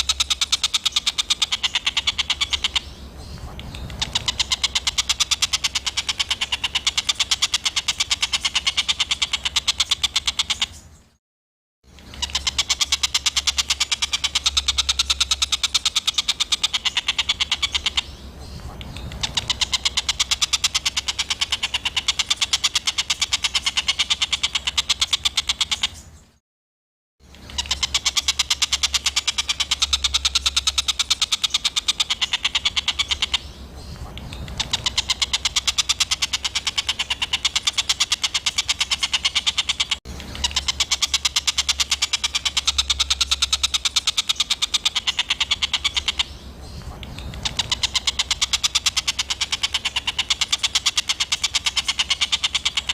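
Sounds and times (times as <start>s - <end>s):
songbird harsh chattering call: 0.0s - 11.1s, 11.9s - 26.2s, 27.3s - 52.9s.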